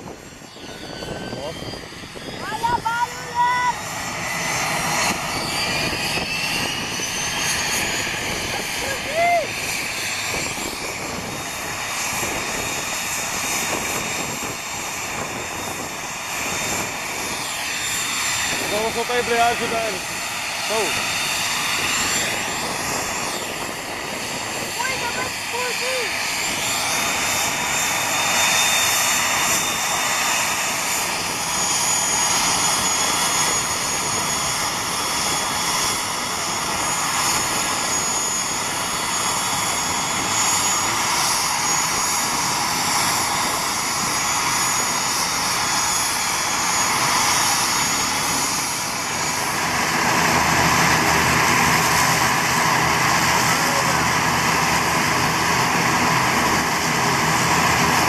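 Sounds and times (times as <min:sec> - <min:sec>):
propeller drone: 0:00.0 - 0:58.0
turboprop engines whining: 0:00.0 - 0:58.0.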